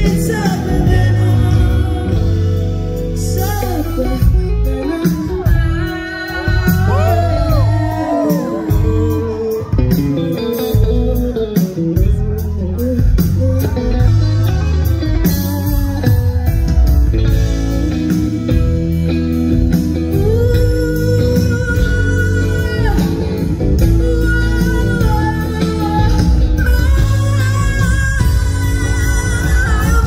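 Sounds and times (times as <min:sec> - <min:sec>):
electric guitar melody: 0:00.0 - 0:30.0
rock band playing: 0:00.0 - 0:30.0.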